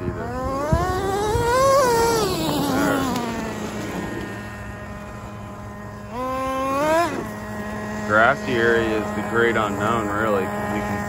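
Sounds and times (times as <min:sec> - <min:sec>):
rc truck engine revving: 0:00.0 - 0:11.0.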